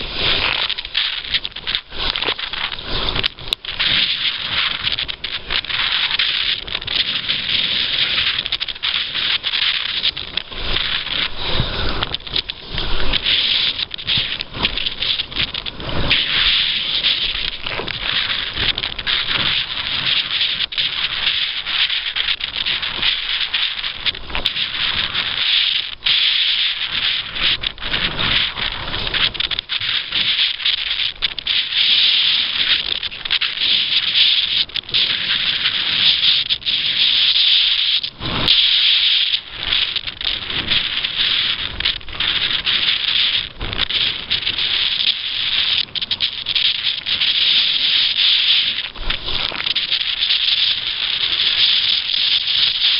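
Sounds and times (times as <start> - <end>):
water and wind rushing: 0.0 - 52.9.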